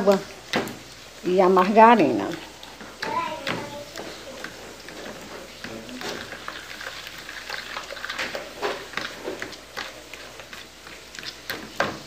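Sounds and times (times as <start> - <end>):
fork stirring wet mix: 0.0 - 12.0.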